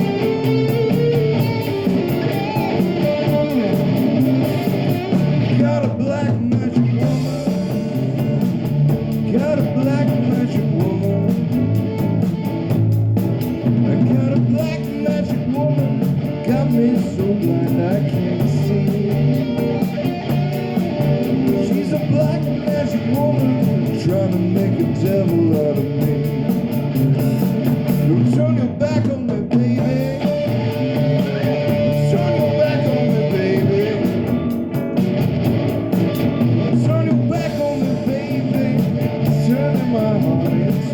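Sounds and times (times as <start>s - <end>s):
person singing: 0.0s - 8.3s, 9.1s - 12.0s, 13.7s - 26.3s, 27.9s - 34.6s, 36.6s - 40.9s
drums with cymbal beat: 0.0s - 40.9s
electric guitar: 0.0s - 40.9s.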